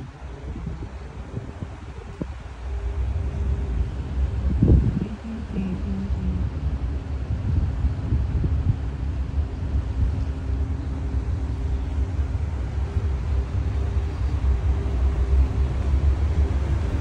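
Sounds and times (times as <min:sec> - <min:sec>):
faint ship engine hum: 0:00.0 - 0:17.0
wind buffeting microphone: 0:00.0 - 0:17.0.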